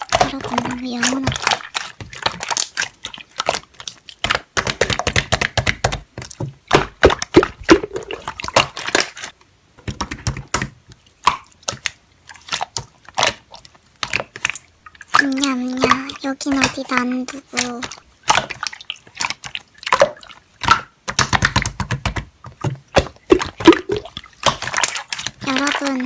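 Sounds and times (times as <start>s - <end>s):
slime squishing and popping: 0.0s - 9.3s, 9.9s - 26.0s.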